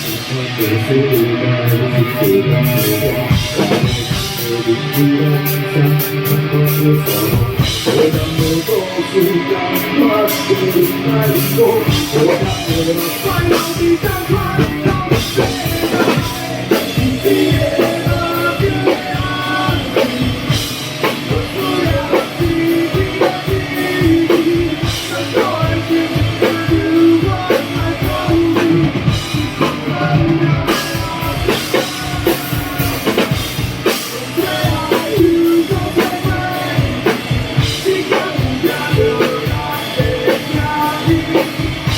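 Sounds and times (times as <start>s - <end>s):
drum kit beat: 0.0s - 41.9s
guitar: 0.0s - 41.9s
person singing: 0.0s - 41.9s
rock band playing: 0.0s - 41.9s.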